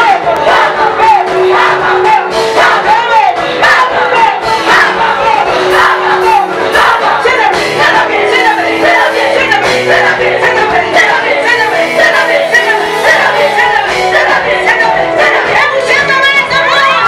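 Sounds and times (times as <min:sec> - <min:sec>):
choir singing praise music: 0:00.0 - 0:17.0
crowd shouting: 0:00.0 - 0:17.0.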